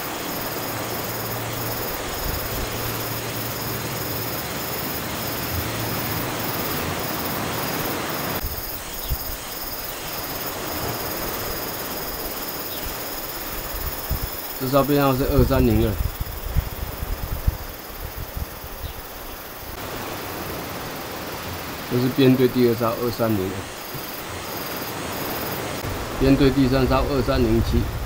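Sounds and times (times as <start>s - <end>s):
wind rushing over microphone: 0.0s - 20.8s, 23.5s - 28.0s.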